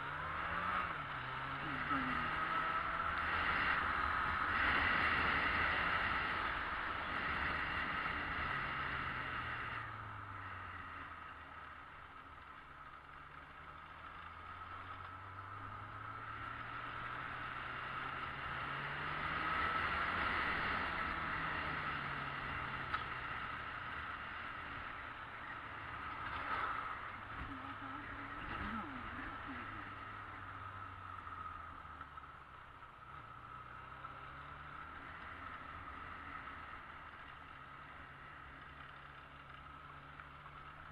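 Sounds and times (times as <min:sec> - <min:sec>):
motorcycle engine running: 0:00.0 - 0:40.9
road noise: 0:00.0 - 0:40.9.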